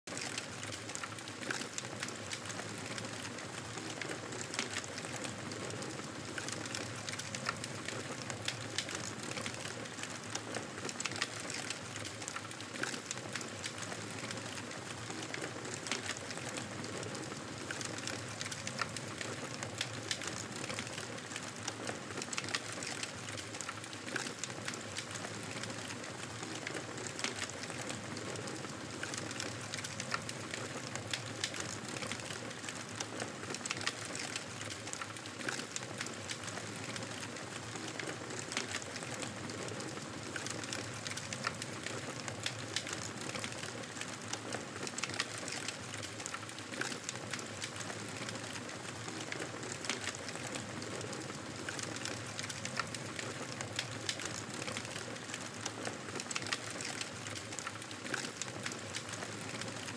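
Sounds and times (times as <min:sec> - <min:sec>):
campfire crackling: 0:06.3 - 0:59.9.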